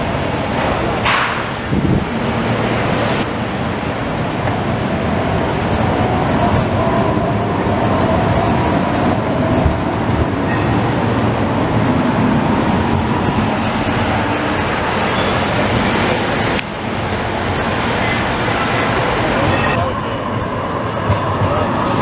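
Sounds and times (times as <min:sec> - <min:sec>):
faint tram whine: 0:00.0 - 0:22.0
tram wheels rumbling on rails: 0:00.0 - 0:22.0.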